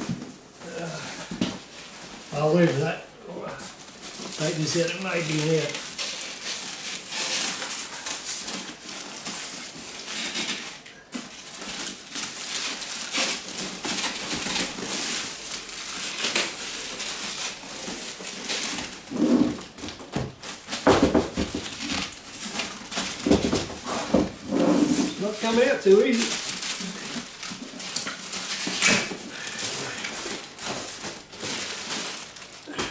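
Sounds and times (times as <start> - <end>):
packaging rustling and scraping: 0.0 - 32.9.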